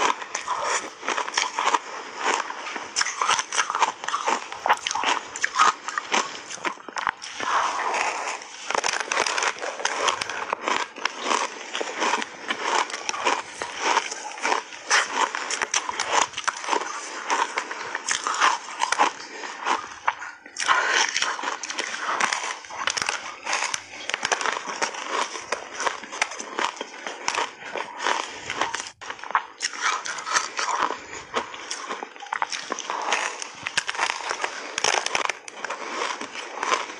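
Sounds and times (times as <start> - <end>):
crunching and chewing ice: 0.0 - 36.9.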